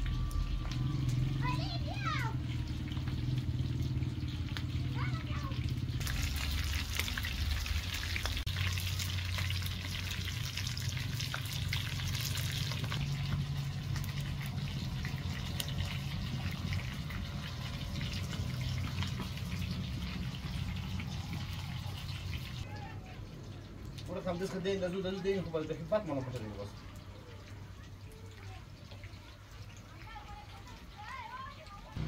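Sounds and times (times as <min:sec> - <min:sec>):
hot oil sizzling and crackling: 0:00.0 - 0:32.0.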